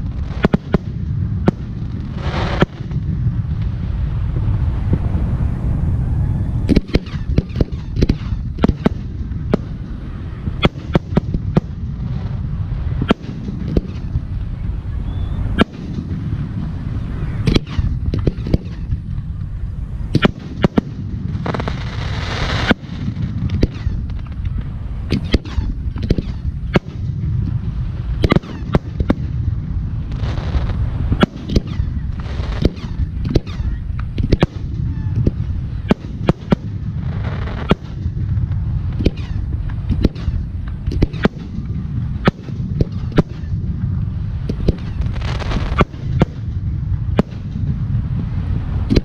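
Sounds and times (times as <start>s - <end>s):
firework bangs: 0.0s - 49.0s
firework crackling: 0.0s - 49.0s
low rumble: 0.0s - 49.0s.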